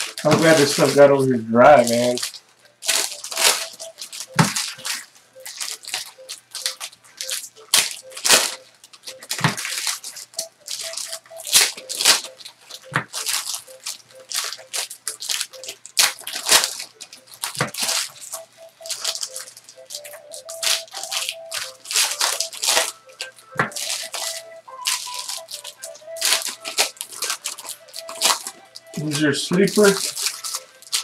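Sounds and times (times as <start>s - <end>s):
wrappers tearing and crinkling: 0.0s - 31.0s.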